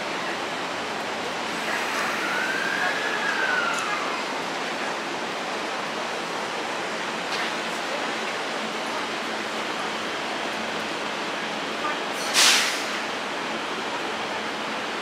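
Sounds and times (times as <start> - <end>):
train rushing noise: 0.0 - 15.0.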